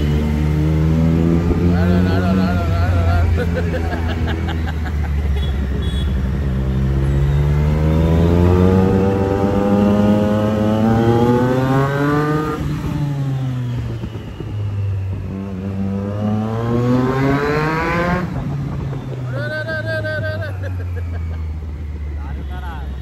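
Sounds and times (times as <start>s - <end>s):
motorcycle engine accelerating: 0.0s - 20.4s.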